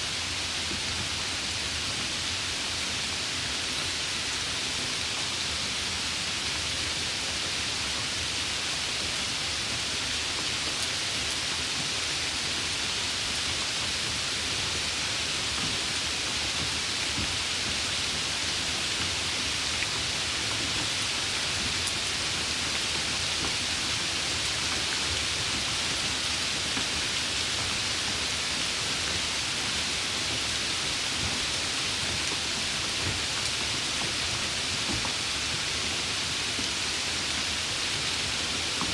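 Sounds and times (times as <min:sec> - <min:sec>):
light rain hiss: 0:00.0 - 0:38.9.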